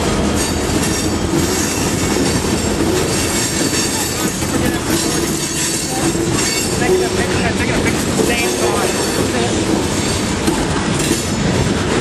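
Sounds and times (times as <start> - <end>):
freight train rumbling past: 0.0 - 12.0
wheels rattling on rails: 0.0 - 12.0.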